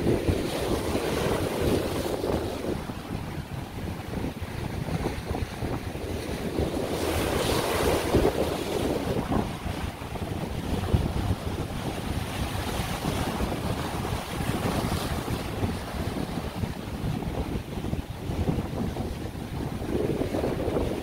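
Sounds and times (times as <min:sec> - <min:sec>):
surf breaking on rocks: 0:00.0 - 0:17.1
wind rumble on microphone: 0:00.0 - 0:21.0.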